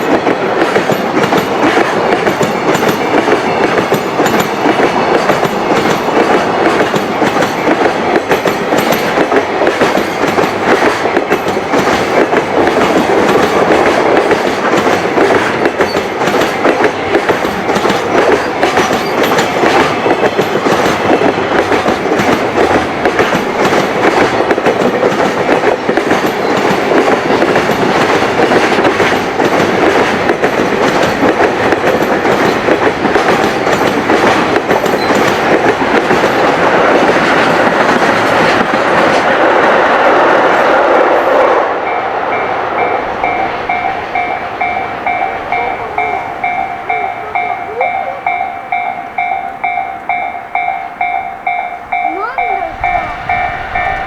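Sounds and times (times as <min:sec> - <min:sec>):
train wheels clattering over rails: 0:00.0 - 0:54.0.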